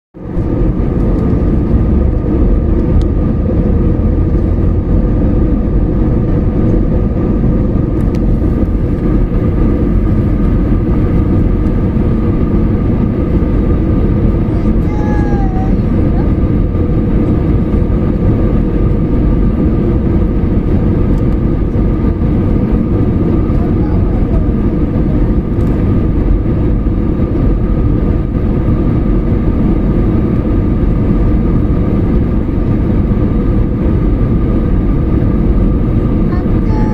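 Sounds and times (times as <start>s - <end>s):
jet engine and airflow rumble: 0.2s - 36.9s.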